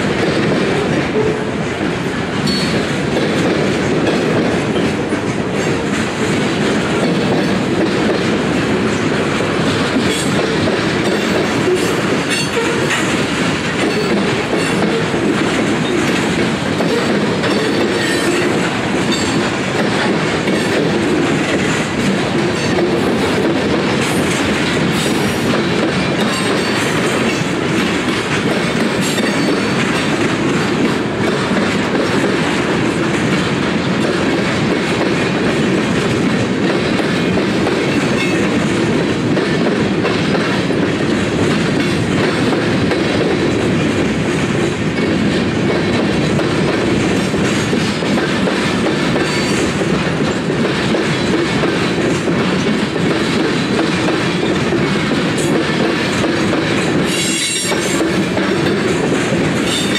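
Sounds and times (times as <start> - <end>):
freight train rolling past: 0.0 - 59.9
steel wheels clattering on rail: 0.0 - 59.9.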